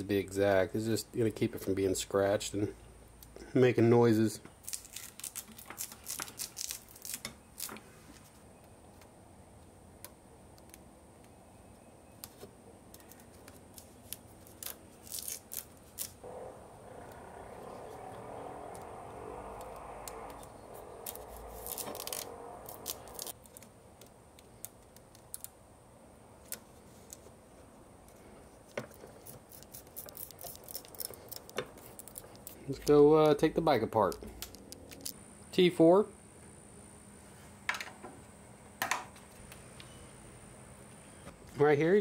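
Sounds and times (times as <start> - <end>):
soft steady noise: 0.0 - 42.0.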